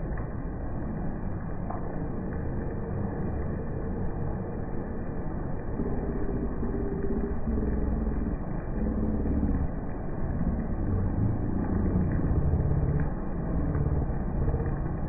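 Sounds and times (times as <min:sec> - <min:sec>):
heavy rain: 0:00.0 - 0:15.0
vehicle engines passing: 0:00.1 - 0:15.0.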